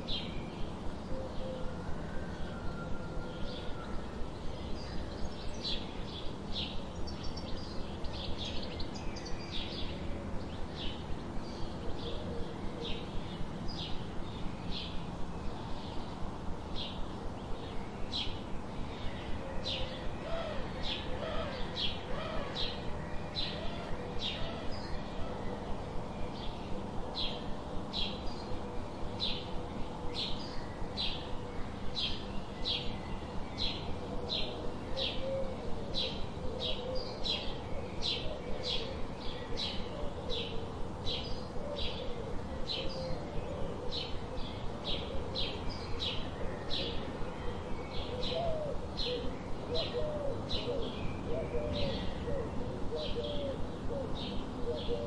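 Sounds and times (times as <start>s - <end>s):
lower wavering bird calls: 0.0s - 55.0s
steady background hiss: 0.0s - 55.0s.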